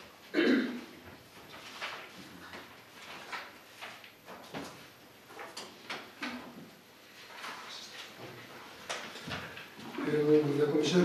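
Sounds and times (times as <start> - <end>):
paper sheets rustling: 1.2 - 11.0.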